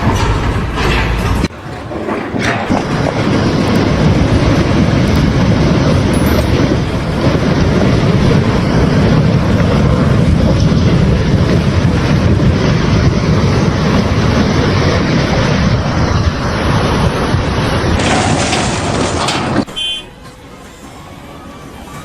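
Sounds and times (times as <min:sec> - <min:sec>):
large vehicle rumbling: 0:00.0 - 0:22.0.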